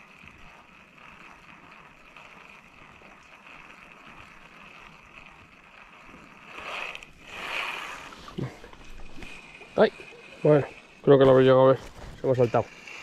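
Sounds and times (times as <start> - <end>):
river water: 0.0 - 13.0
wind: 0.0 - 13.0.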